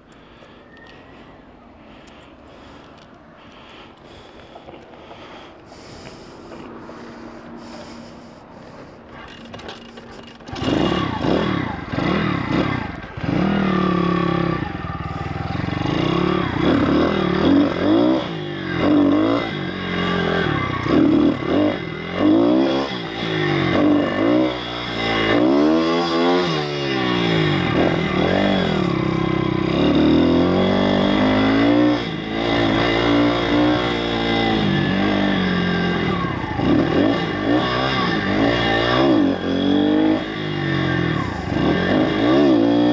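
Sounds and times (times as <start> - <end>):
motorbike engine revving: 3.4 - 42.9.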